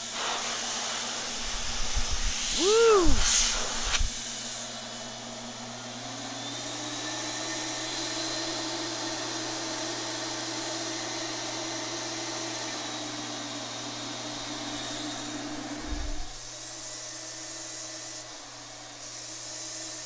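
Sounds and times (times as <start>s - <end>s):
turbine running: 0.0s - 19.0s.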